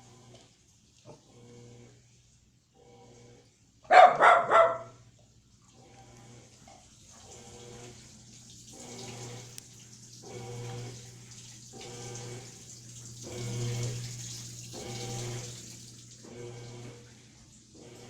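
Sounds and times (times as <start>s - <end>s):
washing machine sloshing and humming: 0.0s - 18.0s.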